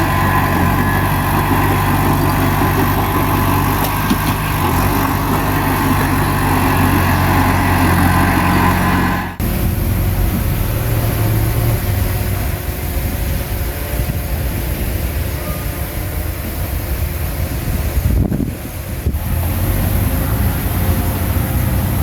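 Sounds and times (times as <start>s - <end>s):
bulldozer diesel engine running: 0.0s - 15.4s, 16.1s - 22.0s.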